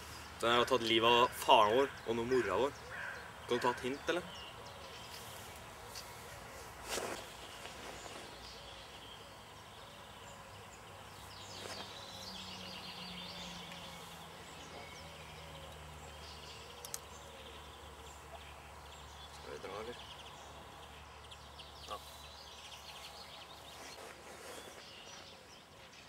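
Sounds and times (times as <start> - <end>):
faint bird chirps: 0.0 - 26.0
steady background hiss: 0.0 - 26.0.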